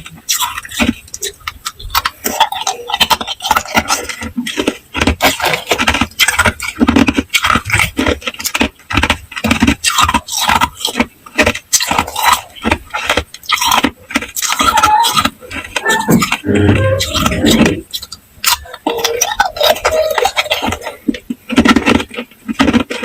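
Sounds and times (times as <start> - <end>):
ice cubes crunching in mouth: 0.0 - 23.0.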